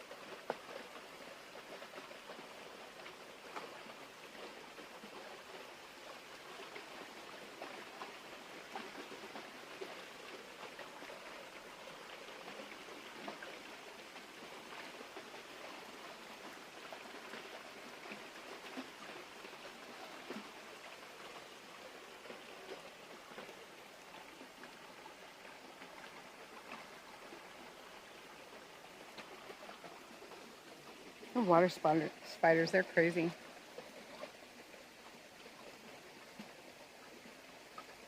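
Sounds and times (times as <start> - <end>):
creek water running: 0.0 - 38.0
small water splashes: 0.0 - 38.0.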